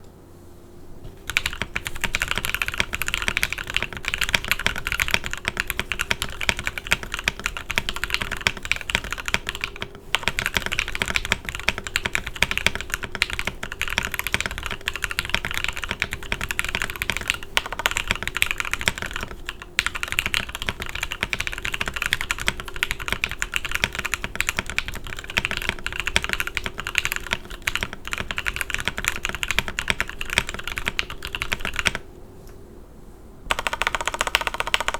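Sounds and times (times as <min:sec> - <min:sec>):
fast typing on mechanical keyboard: 0:01.2 - 0:32.0, 0:33.5 - 0:34.9.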